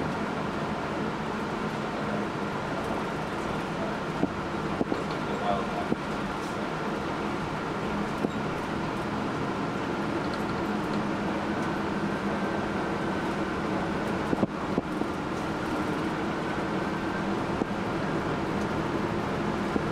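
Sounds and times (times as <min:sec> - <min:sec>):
bus engine and road noise: 0:00.0 - 0:19.9.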